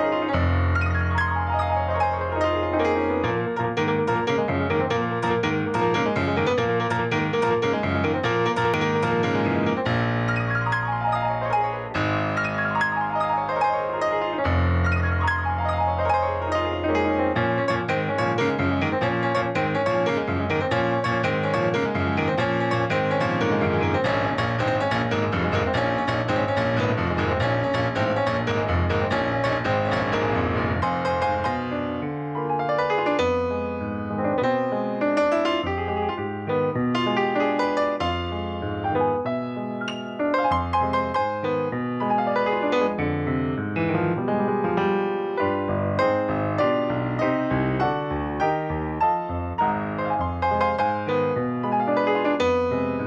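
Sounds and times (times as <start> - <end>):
piano runs over bass notes: 0.0 - 53.0.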